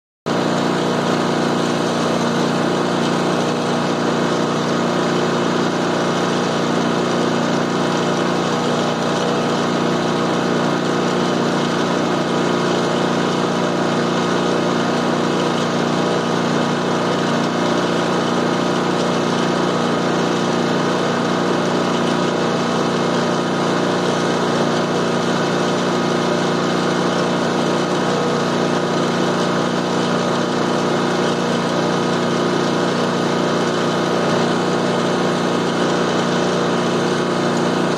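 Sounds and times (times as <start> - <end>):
riding mower engine running: 0.3 - 37.9.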